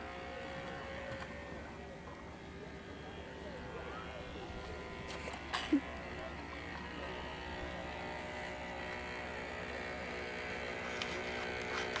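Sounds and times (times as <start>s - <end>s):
small electric motor buzzing: 0.0s - 12.0s.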